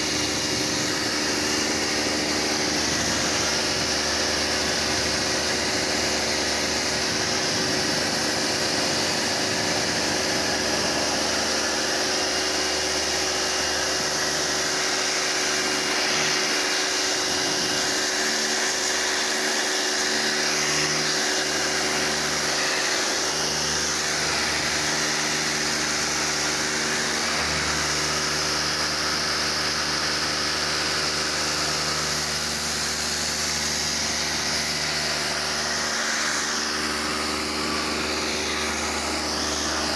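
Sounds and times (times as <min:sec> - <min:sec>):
pressure washer motor humming: 0:00.0 - 0:39.9.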